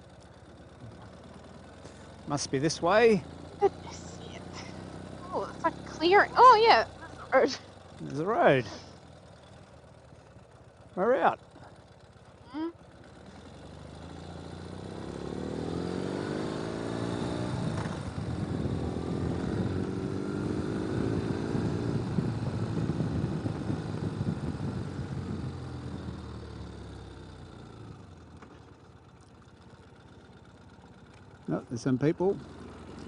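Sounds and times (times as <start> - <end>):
motorcycle engine pulling away: 0.0 - 33.0.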